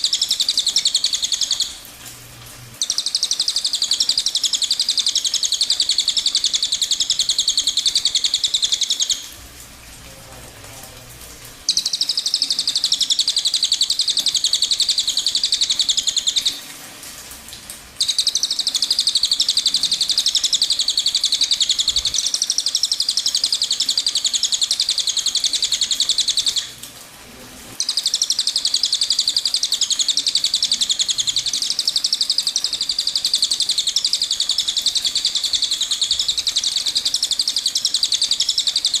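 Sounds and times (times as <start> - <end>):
songbird rapid trill: 0.0 - 1.8, 2.8 - 9.2, 11.7 - 16.6, 18.0 - 26.7, 27.8 - 39.0.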